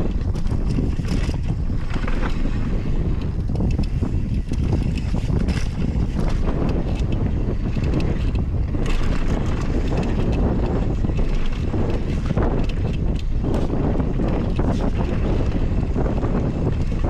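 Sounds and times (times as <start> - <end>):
bike rattling and knocking: 0.0 - 17.0
wind rush on the microphone: 0.0 - 17.0.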